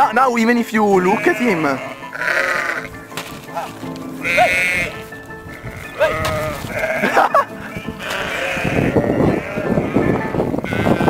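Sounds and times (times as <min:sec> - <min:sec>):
background music: 0:00.0 - 0:11.0
sheep bleating: 0:00.8 - 0:11.0.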